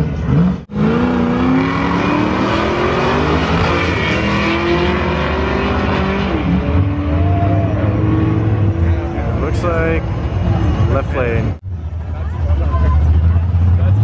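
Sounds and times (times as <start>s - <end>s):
drag racing cars accelerating: 0.0s - 14.0s.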